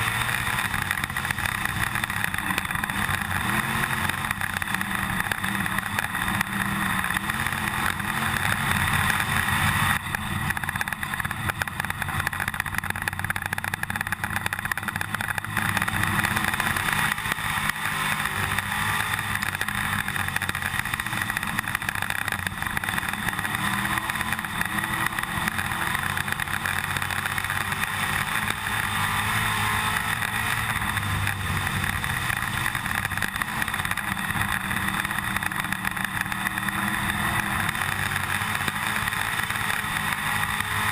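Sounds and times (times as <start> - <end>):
race car engine running: 0.0 - 40.9
rattle inside car: 0.1 - 40.9.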